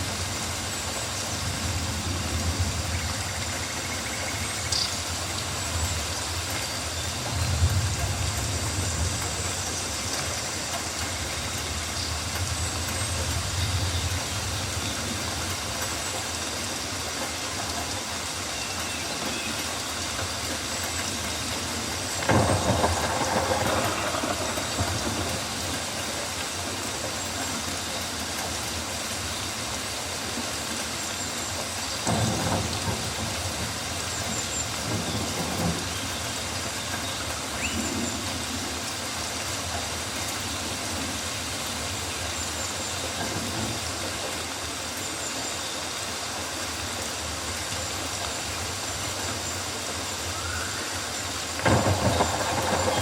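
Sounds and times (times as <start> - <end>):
rain falling on foliage: 0.0 - 53.0.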